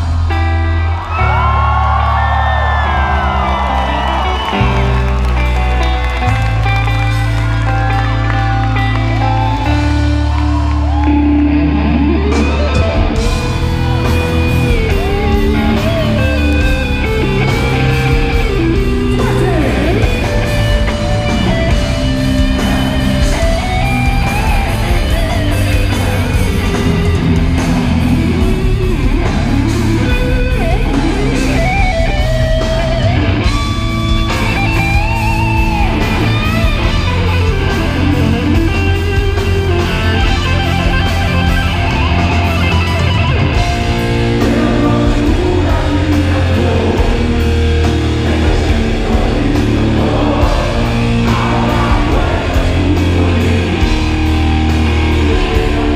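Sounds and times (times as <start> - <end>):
electric guitar lead: 0.0 - 55.9
heavy metal band playing live: 0.0 - 55.9.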